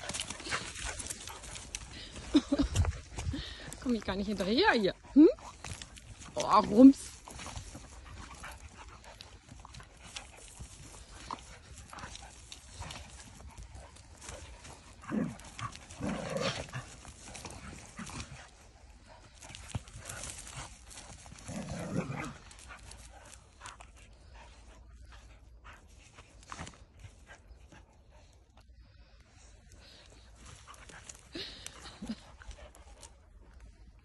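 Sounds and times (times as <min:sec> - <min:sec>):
paws rustling on leaf litter: 0:00.0 - 0:34.0.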